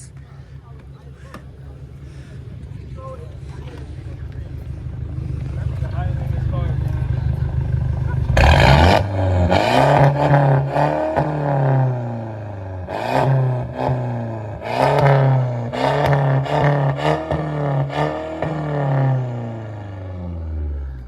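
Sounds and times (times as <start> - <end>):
engine revving in throttle blips: 0.0 - 21.0.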